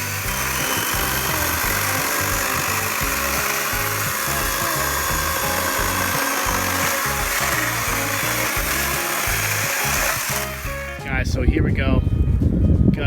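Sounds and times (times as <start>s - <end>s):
electric chainsaw cutting wood: 0.0s - 11.0s
background music with bass line: 0.0s - 13.0s.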